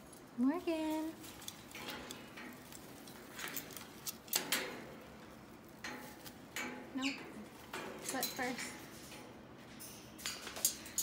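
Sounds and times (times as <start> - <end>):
parrot clicking on metal cage bars: 1.2 - 11.0.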